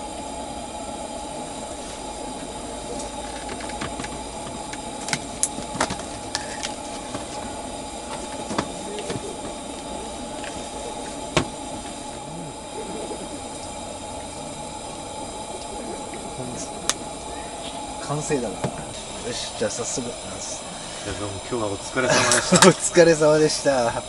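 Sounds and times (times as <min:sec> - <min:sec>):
gas lantern hissing: 0:00.0 - 0:24.0.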